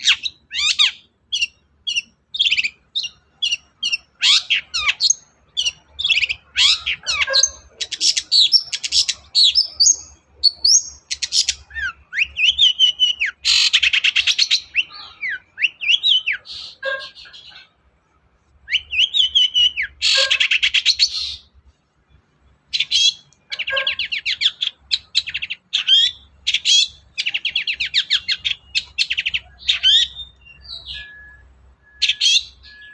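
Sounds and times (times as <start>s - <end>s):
shrike singing varied song: 0.0s - 32.9s.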